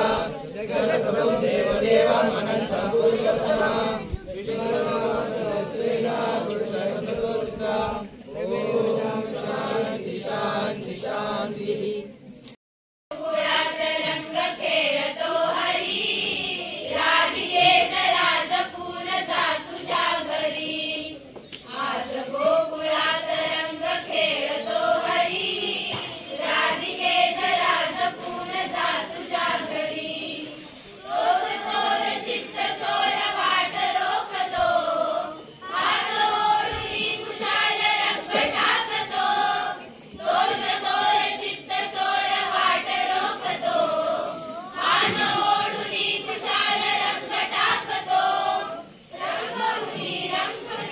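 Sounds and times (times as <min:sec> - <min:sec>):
young voices singing together: 0:00.0 - 0:12.4, 0:13.1 - 0:50.9.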